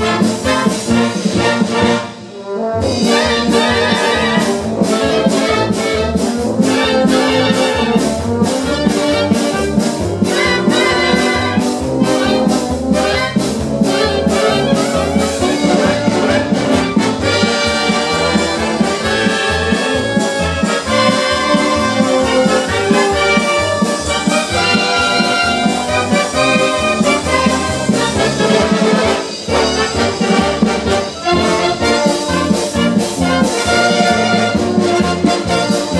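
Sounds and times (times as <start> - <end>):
brass band playing: 0.0 - 35.9
steady drum beat: 0.0 - 35.9.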